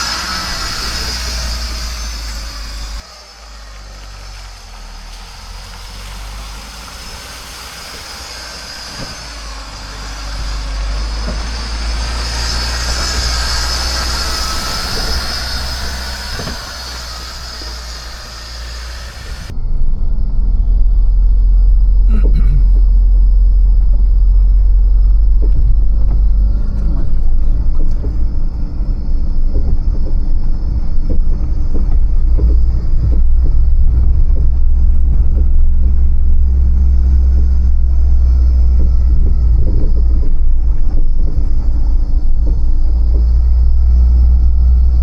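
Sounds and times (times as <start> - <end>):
vehicle engine and road rumble: 0.0 - 45.0.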